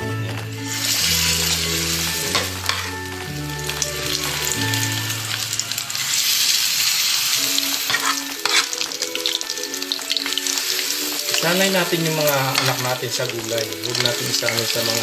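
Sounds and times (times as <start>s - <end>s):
background music: 0.0s - 15.0s
food sizzling in hot oil: 0.0s - 15.0s.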